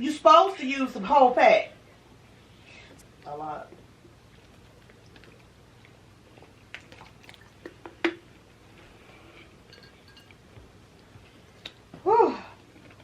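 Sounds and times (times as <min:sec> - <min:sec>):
soft chewing: 0:01.8 - 0:13.0.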